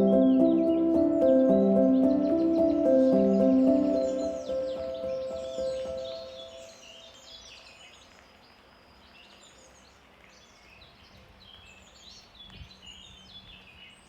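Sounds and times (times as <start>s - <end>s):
low outdoor hiss: 0.0s - 14.0s
songbirds chirping: 0.0s - 14.0s.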